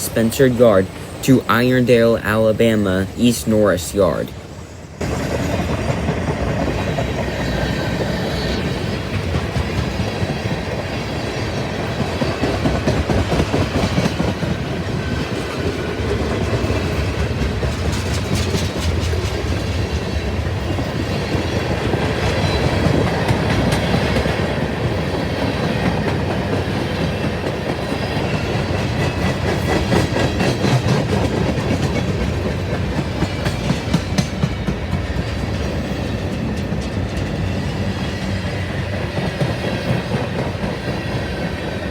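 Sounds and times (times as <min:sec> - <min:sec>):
freight train cars rolling past: 0:00.0 - 0:41.9.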